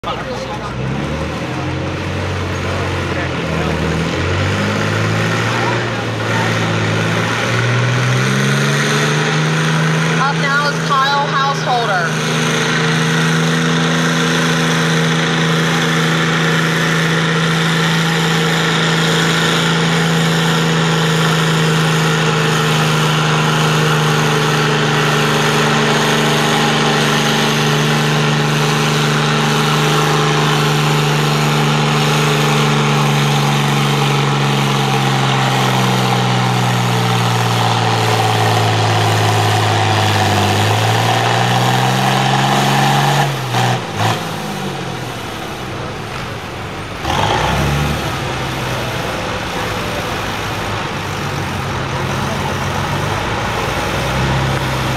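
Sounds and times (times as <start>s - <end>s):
tractor diesel engine at full throttle: 0.0s - 54.9s.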